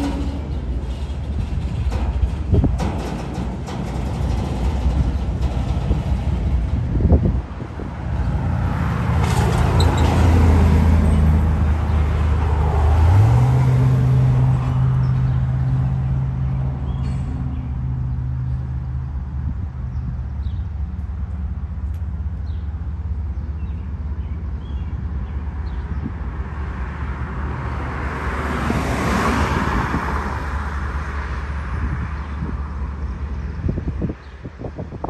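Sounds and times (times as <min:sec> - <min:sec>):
road vehicle passing: 0:00.0 - 0:34.8
freight train wheels rumbling: 0:00.0 - 0:35.0.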